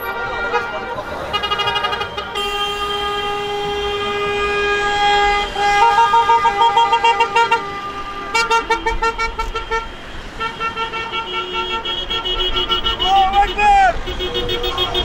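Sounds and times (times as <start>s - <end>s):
car horns honking: 0.0s - 15.0s
passing traffic hum: 0.0s - 15.0s.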